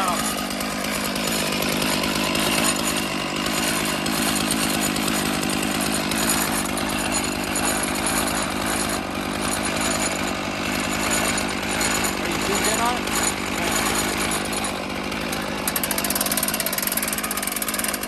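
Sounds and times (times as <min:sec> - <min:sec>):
chainsaw cutting through log: 0:00.0 - 0:18.0.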